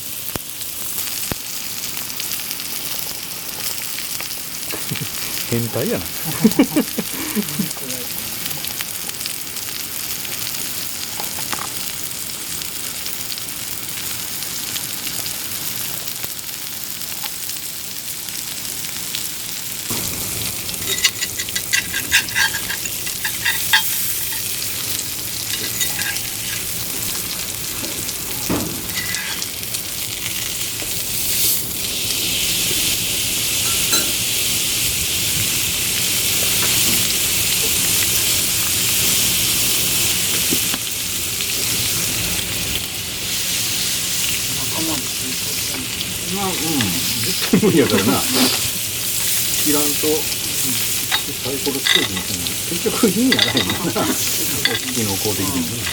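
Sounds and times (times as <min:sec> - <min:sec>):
steak sizzling: 0:00.0 - 0:55.9.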